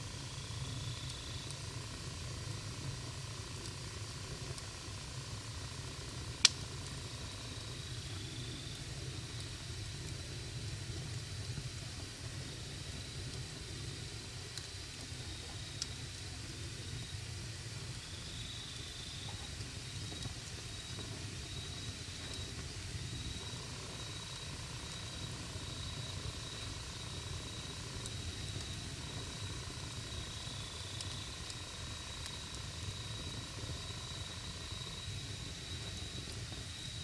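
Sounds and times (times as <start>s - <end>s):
campfire crackles: 0.0s - 37.0s
campfire rumbling and hissing: 0.0s - 37.0s.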